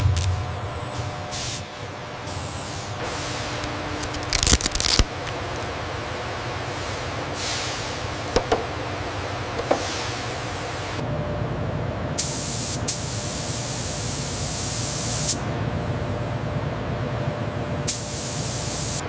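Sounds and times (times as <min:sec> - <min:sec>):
low machinery hum: 0:00.0 - 0:12.3, 0:15.4 - 0:19.0.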